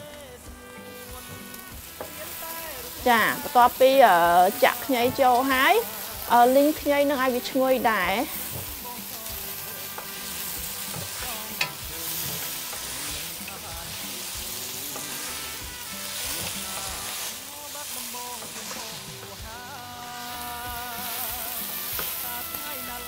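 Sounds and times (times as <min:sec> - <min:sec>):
ginger sizzling in hot oil: 0:00.0 - 0:23.0
wooden spatula scraping wok: 0:01.0 - 0:23.0.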